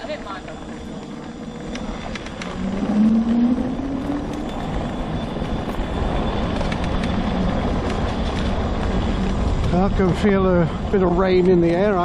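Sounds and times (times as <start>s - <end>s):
electric motor whine: 0.0s - 10.1s
steady rumble of ride: 0.0s - 12.0s.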